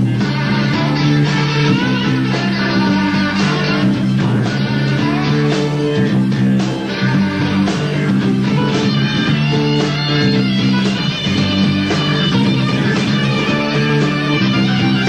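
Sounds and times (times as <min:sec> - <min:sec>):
bass: 0:00.0 - 0:15.0
electric guitars: 0:00.0 - 0:15.0
steady drums: 0:00.0 - 0:15.0.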